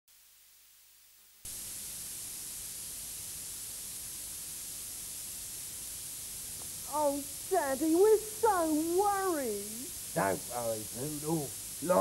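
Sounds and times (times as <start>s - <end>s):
analogue tape hiss: 0.1s - 12.0s.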